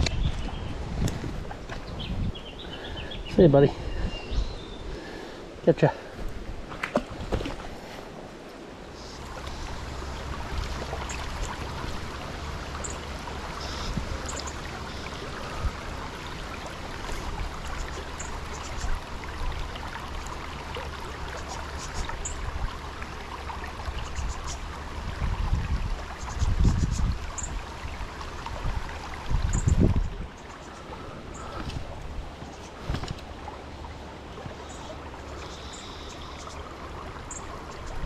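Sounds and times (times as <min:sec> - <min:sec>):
creek flowing: 0:00.0 - 0:38.0.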